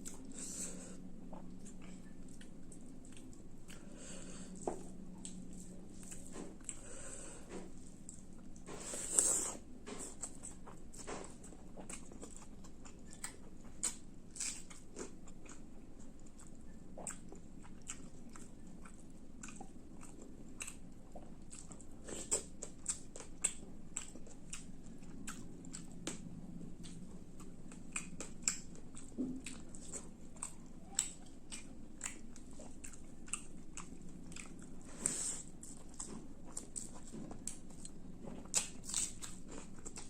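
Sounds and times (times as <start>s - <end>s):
person chewing and smacking: 0.0s - 40.0s.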